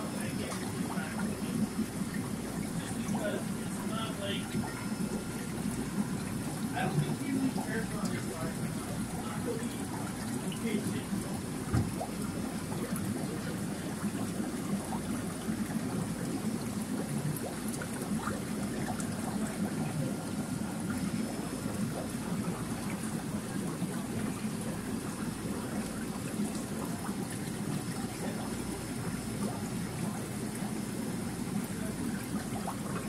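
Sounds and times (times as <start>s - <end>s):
aquarium filter running: 0.0s - 33.0s
trickle of water: 0.0s - 33.0s.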